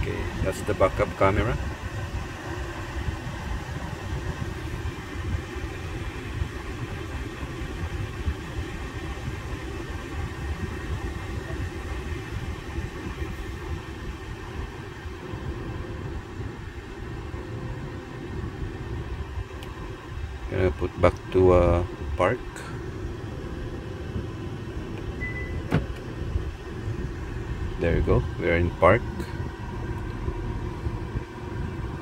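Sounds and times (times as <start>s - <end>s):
car air-conditioning blower: 0.0s - 32.0s.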